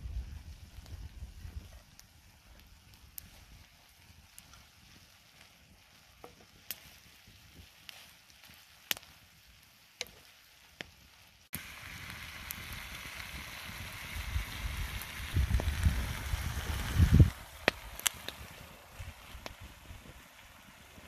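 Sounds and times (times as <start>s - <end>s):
food sizzling in a skillet: 0.0s - 21.0s
sharp crackles and clicks: 0.0s - 21.0s.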